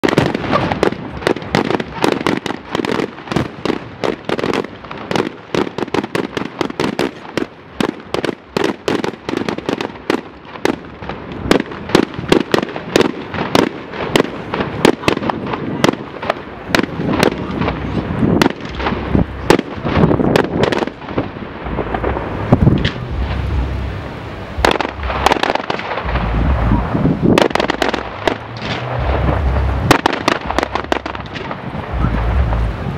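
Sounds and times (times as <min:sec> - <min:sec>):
fireworks bangs and crackles: 0:00.0 - 0:32.9
heavy low firework booms: 0:00.0 - 0:32.9.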